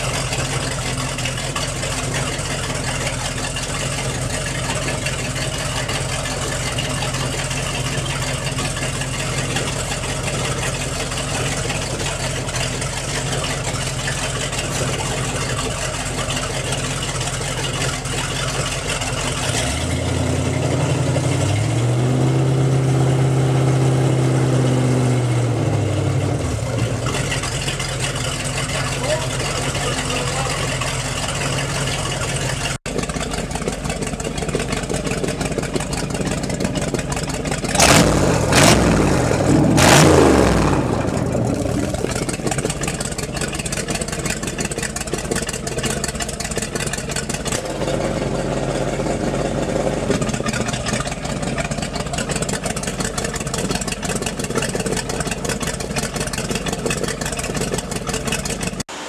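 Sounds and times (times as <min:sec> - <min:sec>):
boat engine idling and revving: 0:00.0 - 0:59.0.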